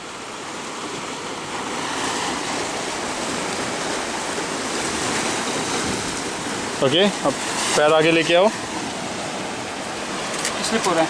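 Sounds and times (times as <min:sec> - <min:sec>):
ocean surf against rocks: 0:00.0 - 0:11.0.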